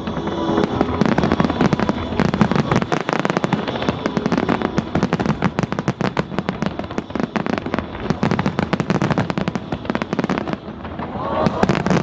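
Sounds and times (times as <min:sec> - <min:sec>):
fireworks cracking: 0:00.0 - 0:12.0
low booming of fireworks bursts: 0:00.0 - 0:12.0.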